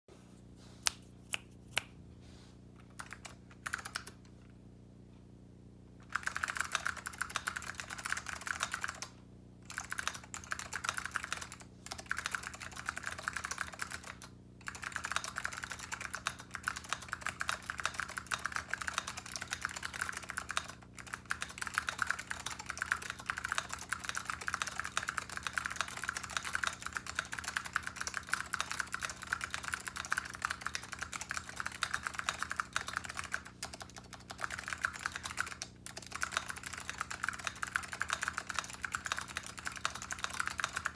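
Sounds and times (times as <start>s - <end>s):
fast typing on clicky keyboard: 2.9s - 4.2s, 6.0s - 40.9s.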